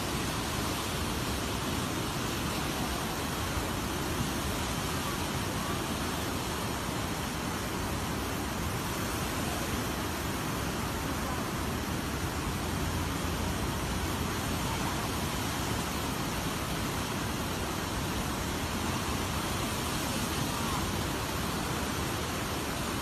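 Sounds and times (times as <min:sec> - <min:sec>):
floodwater surging and rushing: 0:00.0 - 0:23.0.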